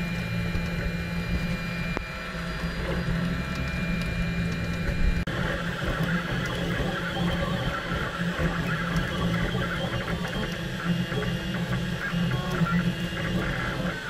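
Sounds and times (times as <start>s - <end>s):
printer stepper motors whirring: 0.0s - 14.0s.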